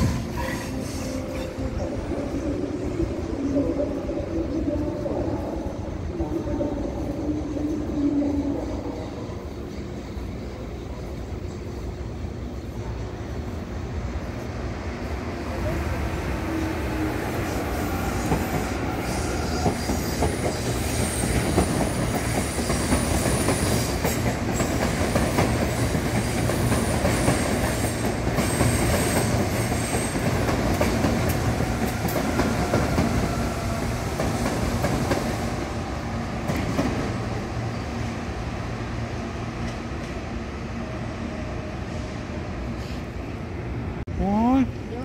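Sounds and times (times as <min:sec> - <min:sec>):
electric trains running past: 0:00.0 - 0:45.0.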